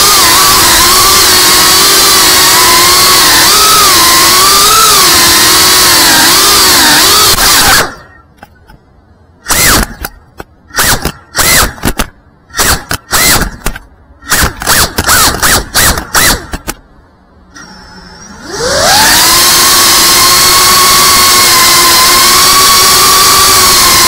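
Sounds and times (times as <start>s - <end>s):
quadcopter motors whining: 0.0s - 8.3s, 9.4s - 16.8s, 17.5s - 24.0s.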